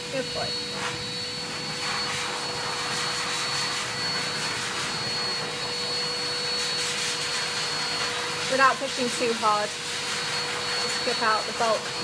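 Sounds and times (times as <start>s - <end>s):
cordless trimmer humming: 0.0s - 12.0s.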